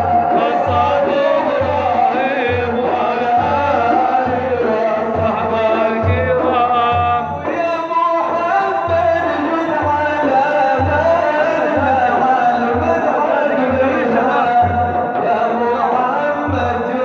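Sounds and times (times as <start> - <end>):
low drum beat: 0.0 - 15.7
man singing ornamented melody: 0.0 - 17.0.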